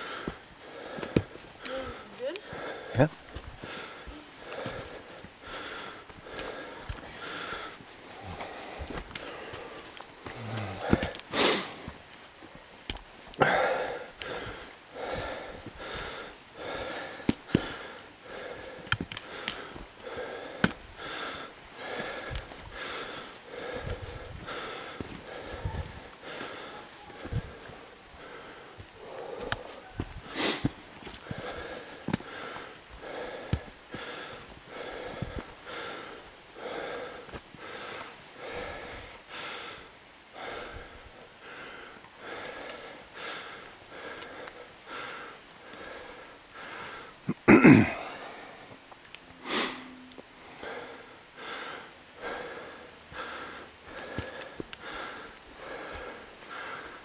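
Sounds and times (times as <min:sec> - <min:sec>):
hard wheezing breathing: 0:00.0 - 0:11.9, 0:13.4 - 0:48.7, 0:49.4 - 0:57.0.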